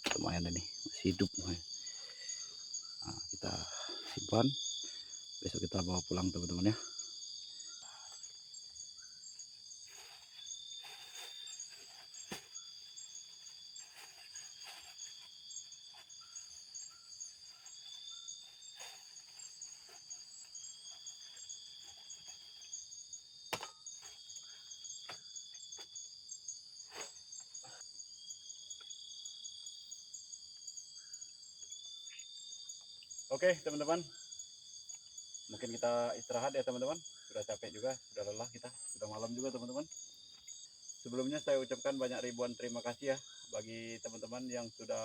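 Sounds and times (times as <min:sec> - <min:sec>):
insects droning: 0:00.0 - 0:45.0
repeating insect call: 0:00.0 - 0:45.0.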